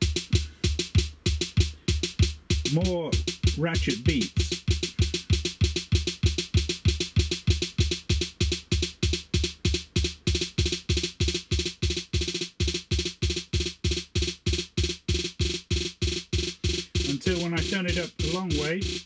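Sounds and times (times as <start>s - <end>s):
drum machine kick drum: 0.0s - 19.0s.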